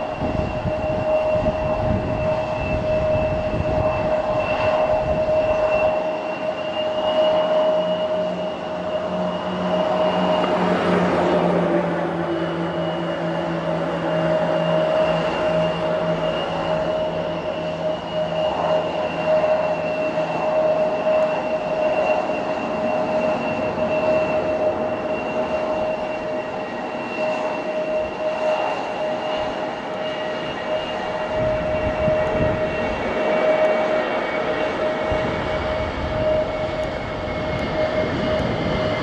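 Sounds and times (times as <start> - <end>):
jet engines whining: 0.0 - 39.0
wind buffeting microphone: 0.0 - 39.0.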